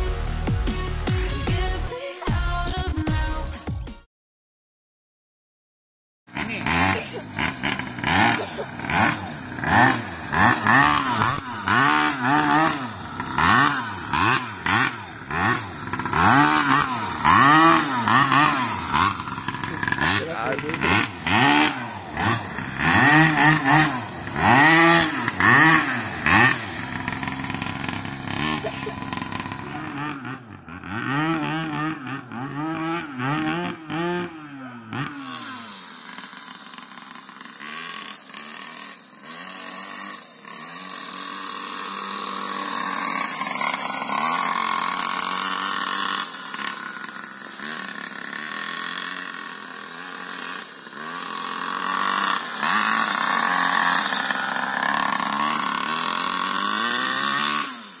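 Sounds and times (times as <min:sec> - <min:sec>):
small engine revving: 0:06.3 - 0:58.0.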